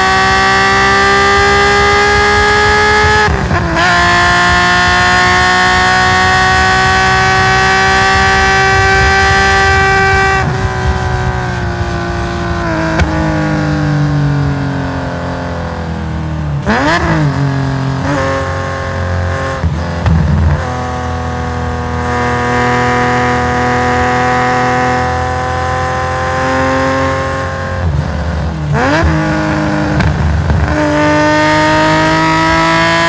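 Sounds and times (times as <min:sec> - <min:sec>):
race car engine at high revs: 0:00.0 - 0:33.0.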